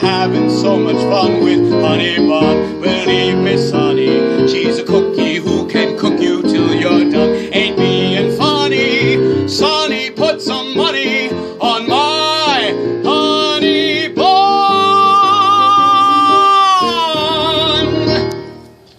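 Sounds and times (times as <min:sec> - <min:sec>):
man singing with vibrato: 0:00.0 - 0:18.4
instrumental accompaniment: 0:00.0 - 0:18.9.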